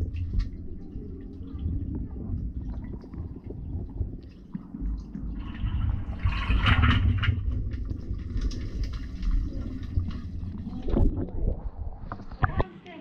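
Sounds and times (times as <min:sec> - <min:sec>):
muffled underwater rumble: 0:00.0 - 0:12.7
water sloshing and bubbling: 0:00.0 - 0:12.8.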